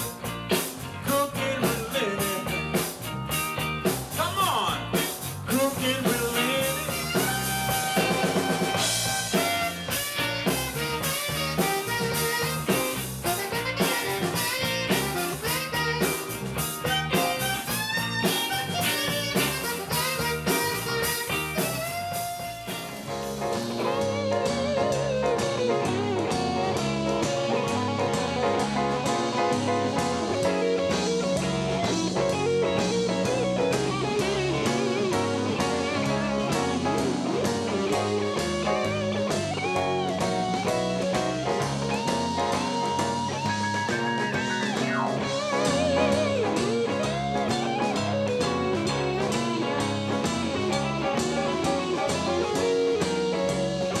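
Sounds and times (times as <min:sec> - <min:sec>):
electric guitar lead: 0:00.0 - 0:54.0
steady drum beat: 0:00.0 - 0:54.0.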